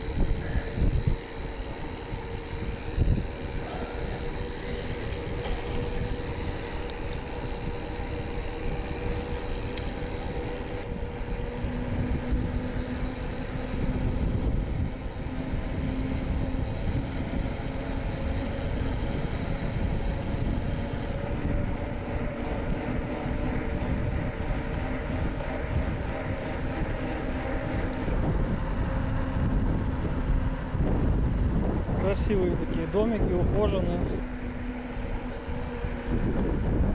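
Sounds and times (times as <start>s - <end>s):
rolling tyre noise: 0.0s - 36.9s
steady hum: 0.0s - 36.9s
wind buffeting microphone: 0.0s - 36.9s.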